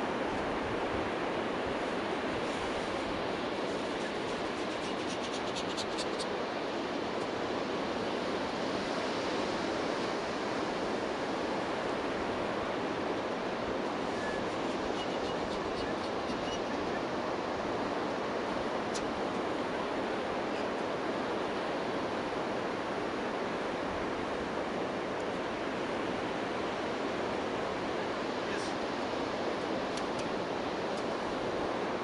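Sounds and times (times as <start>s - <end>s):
ocean surf breaking on beach: 0.0s - 32.0s.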